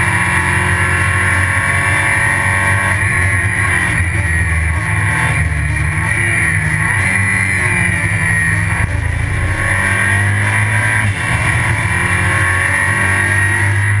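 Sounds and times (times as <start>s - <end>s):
race car engine running hard: 0.0s - 14.0s.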